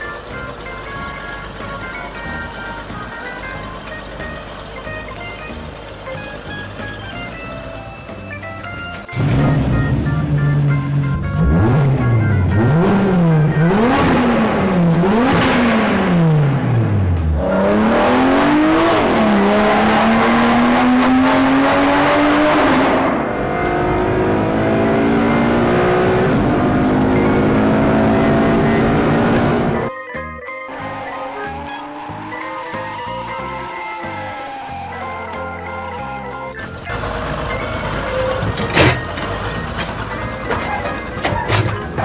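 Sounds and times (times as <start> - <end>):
vehicle engine revving: 0.0 - 29.9, 30.7 - 42.0
music: 0.0 - 42.0.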